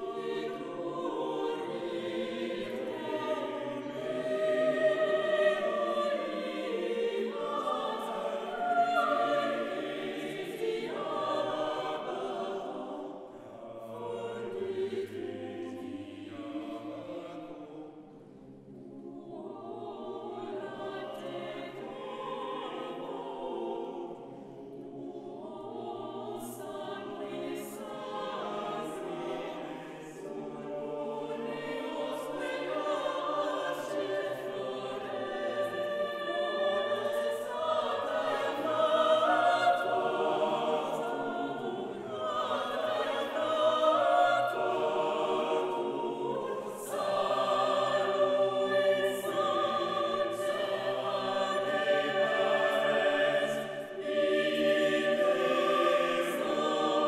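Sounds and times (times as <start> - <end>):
choir singing sustained chords: 0.0 - 57.0.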